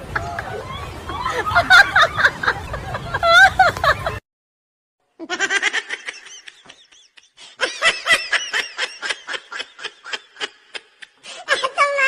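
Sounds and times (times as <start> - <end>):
person laughing: 1.1 - 4.2, 5.2 - 12.0.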